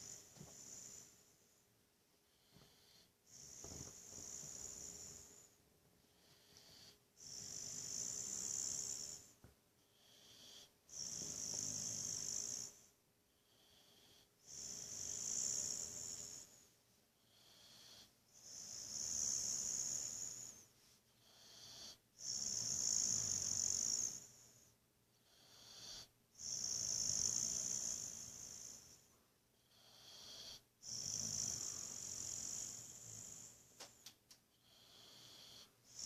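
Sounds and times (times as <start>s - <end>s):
dog snoring: 0.0s - 1.5s, 2.2s - 36.0s.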